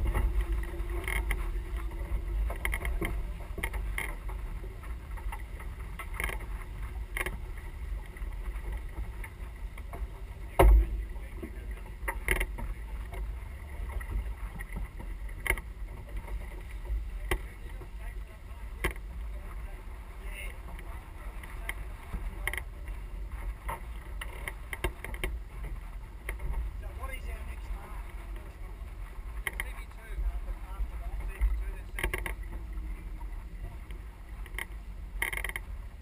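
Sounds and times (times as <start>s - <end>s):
boat rushing through water: 0.0s - 36.0s
wind rumbling on microphone: 0.0s - 36.0s.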